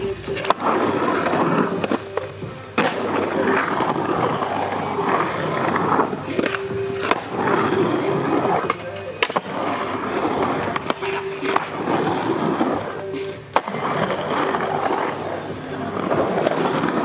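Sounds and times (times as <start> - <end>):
skateboard clacks: 0.0 - 17.0
skateboard wheels rolling on concrete: 0.0 - 17.0
skateboard hard landing: 0.4 - 17.0.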